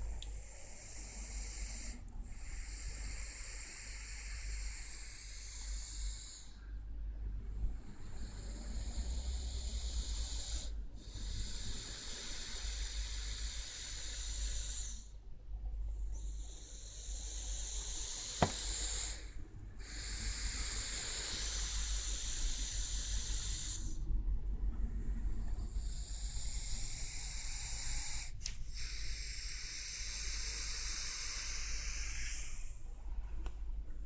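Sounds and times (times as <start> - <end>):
dog snoring: 0.0 - 6.6, 7.7 - 15.1, 16.1 - 24.0, 25.0 - 32.8.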